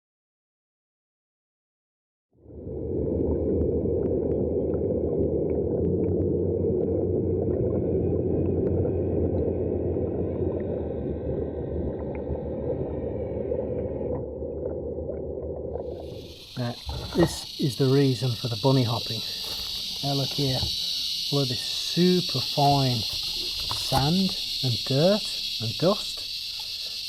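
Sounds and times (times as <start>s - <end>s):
pumped water churning and gurgling: 2.8s - 27.0s.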